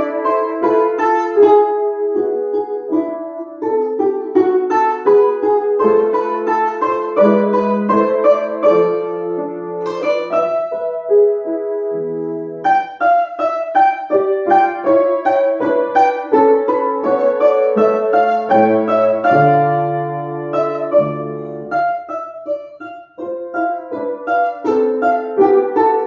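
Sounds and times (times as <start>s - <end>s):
solo instrument classical dance: 0.0s - 26.0s.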